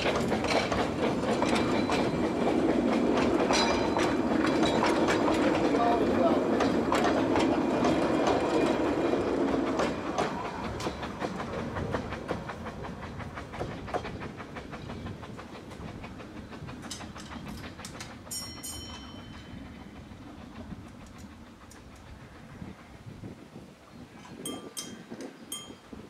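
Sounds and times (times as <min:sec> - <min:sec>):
train wheels clicking on rails: 0:00.0 - 0:26.0.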